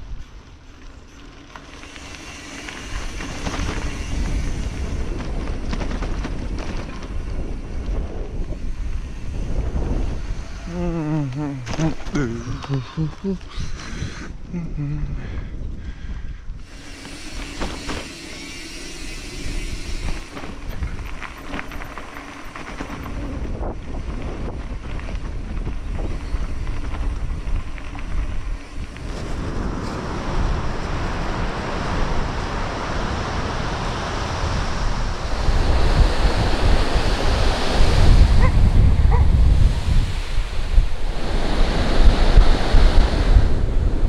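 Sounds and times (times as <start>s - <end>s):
wind buffeting microphone: 1.8s - 44.0s.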